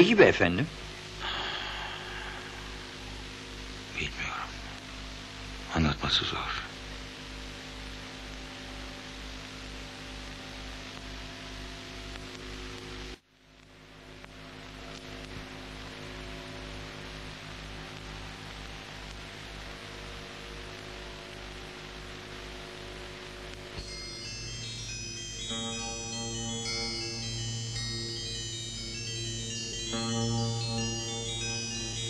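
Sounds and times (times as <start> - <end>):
electrical hum with hiss: 0.0 - 32.0.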